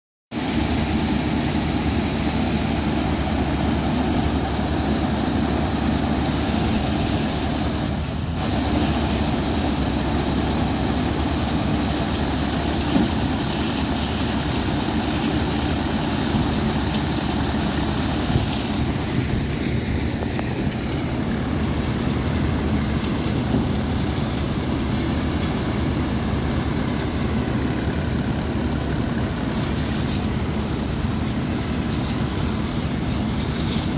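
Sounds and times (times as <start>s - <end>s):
harvest machinery engine drone: 0.4s - 33.9s.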